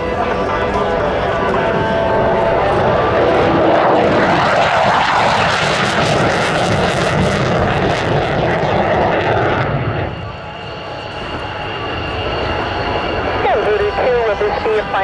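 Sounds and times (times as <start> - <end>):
fighter jet roaring past: 0.0 - 15.0.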